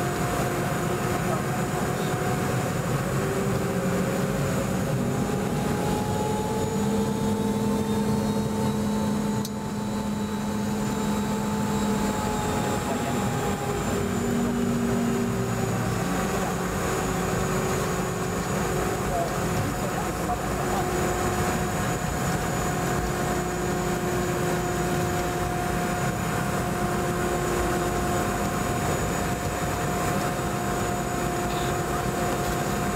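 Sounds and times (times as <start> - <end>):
jet engines roaring with whine: 0.0 - 32.9.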